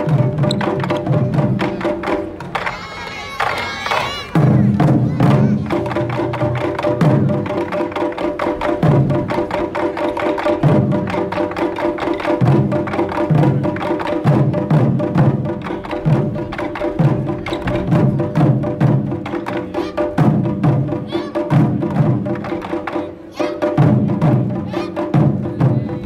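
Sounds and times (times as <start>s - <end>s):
taiko drums booming: 0.0s - 26.0s.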